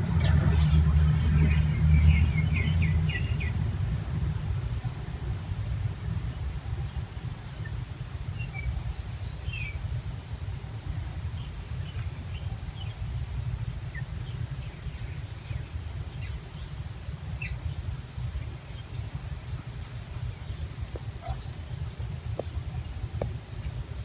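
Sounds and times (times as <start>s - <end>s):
birds chirping: 0.0s - 5.4s, 6.0s - 9.9s, 11.2s - 24.0s
steady low rumble: 0.0s - 24.0s.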